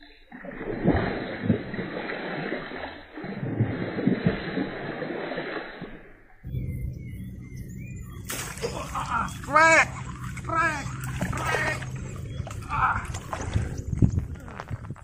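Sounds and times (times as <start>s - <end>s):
fish splashing at water surface: 0.4s - 6.3s, 8.2s - 14.9s.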